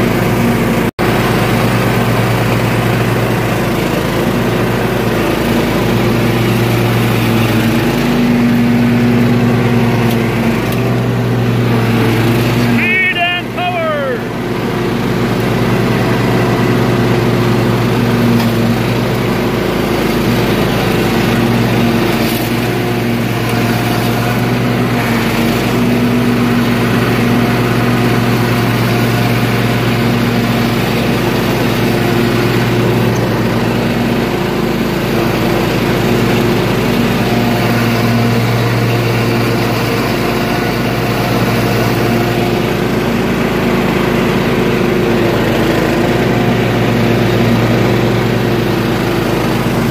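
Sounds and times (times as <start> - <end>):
riding mower engine running: 0.0 - 49.9.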